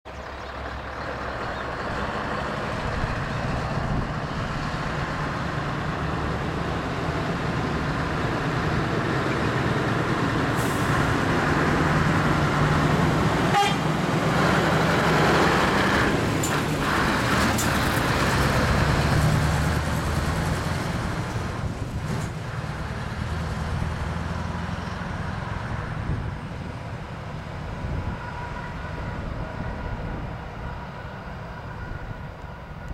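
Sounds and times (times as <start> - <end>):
diesel truck driving past: 0.1 - 32.9.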